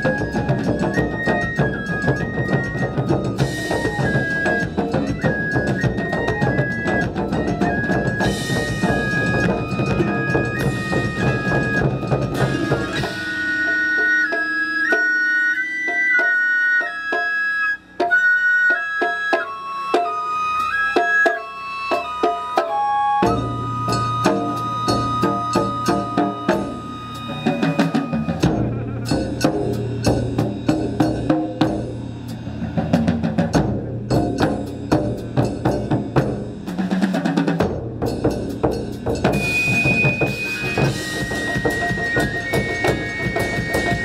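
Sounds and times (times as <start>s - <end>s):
high flute melody: 0.0s - 30.8s, 39.2s - 44.0s
taiko drums: 0.0s - 44.0s.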